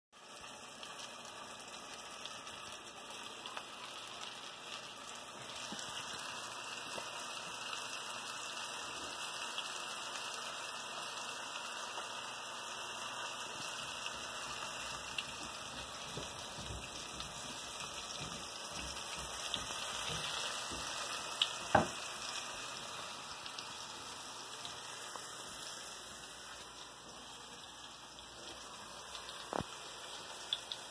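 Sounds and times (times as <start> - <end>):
meat sizzling in a frying pan: 0.2 - 30.9.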